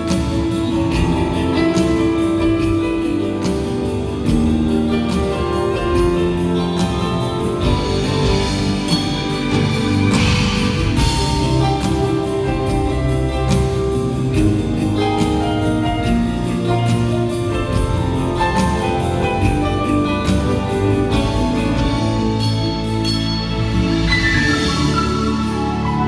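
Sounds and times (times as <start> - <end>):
drum kit beat: 0.0 - 26.0
electric guitar: 0.0 - 26.0.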